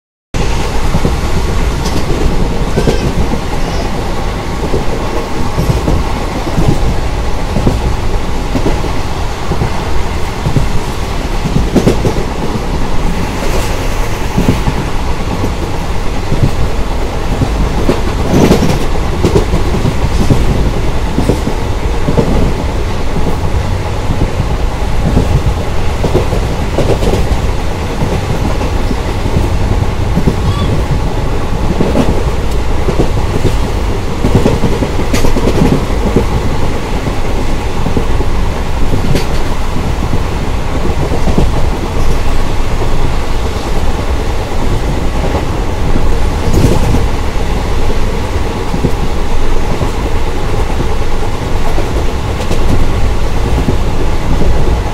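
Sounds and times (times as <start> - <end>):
train wheels rumbling on track: 0.3 - 54.9
clickety-clack of rail joints: 0.4 - 54.9.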